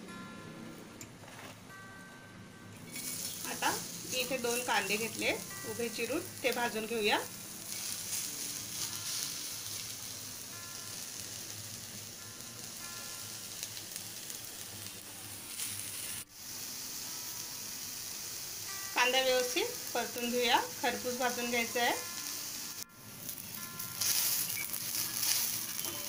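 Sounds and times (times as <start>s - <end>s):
onions sizzling: 2.8s - 26.0s.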